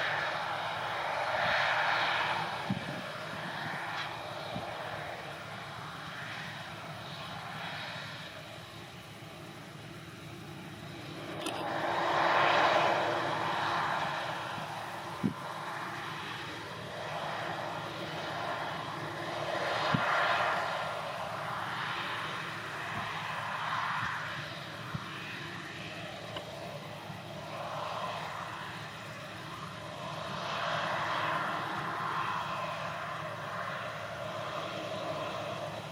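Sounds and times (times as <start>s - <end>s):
combine harvester drone: 0.0s - 35.9s.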